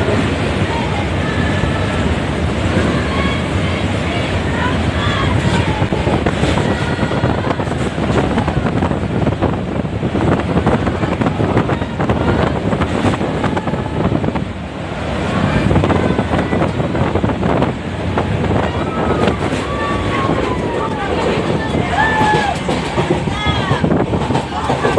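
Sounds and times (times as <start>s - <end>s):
train wheels clattering on rails: 0.0s - 24.9s
wind rushing against microphone: 0.0s - 24.9s.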